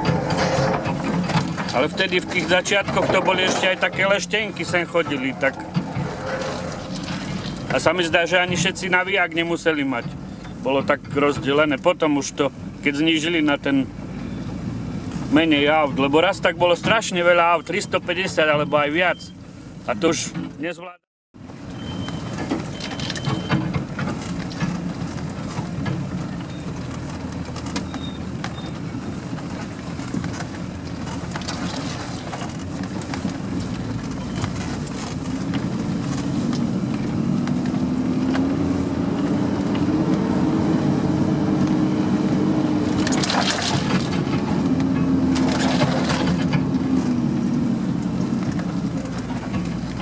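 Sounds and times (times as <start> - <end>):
vehicle engine under load: 0.0 - 20.7, 21.4 - 50.0.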